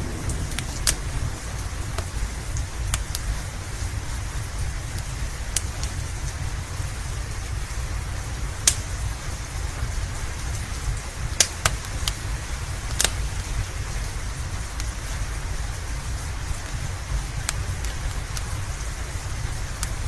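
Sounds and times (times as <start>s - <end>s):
low rumble: 0.0s - 19.8s
steady rain: 0.0s - 20.0s
wood fire crackling and popping: 0.0s - 20.0s.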